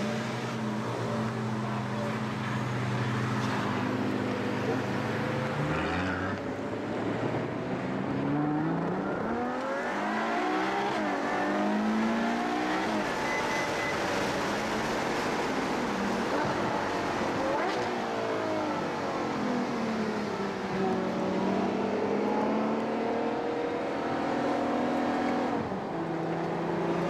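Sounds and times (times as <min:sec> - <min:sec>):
car engine accelerating through gears: 0:03.5 - 0:27.0.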